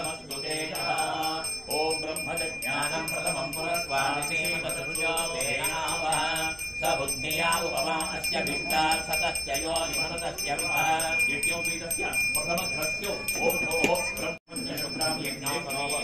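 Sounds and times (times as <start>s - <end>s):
bell rung rapidly: 0.0s - 16.0s
voices chanting: 0.0s - 16.0s.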